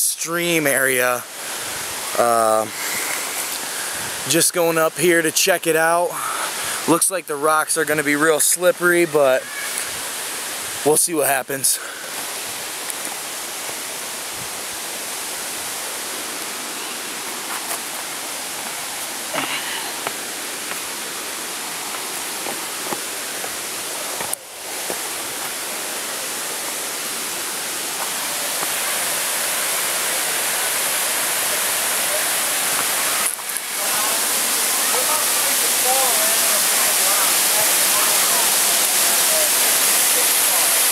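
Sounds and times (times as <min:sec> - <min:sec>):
waterfall and stream rushing: 0:00.0 - 0:40.9.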